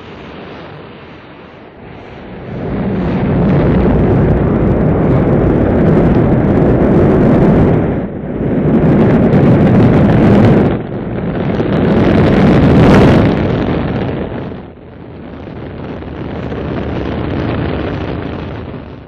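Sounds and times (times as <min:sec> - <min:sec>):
rocket launch rumble: 0:00.0 - 0:19.0.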